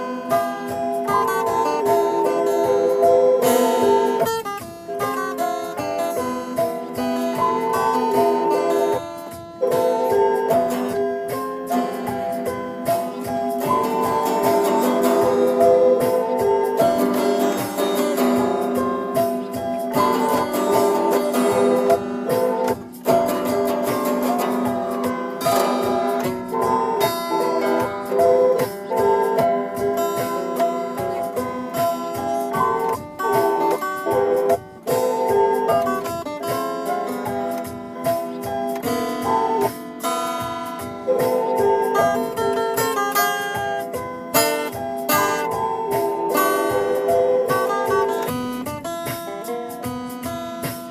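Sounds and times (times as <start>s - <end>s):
acoustic guitar plucked and strummed: 0.0s - 50.9s.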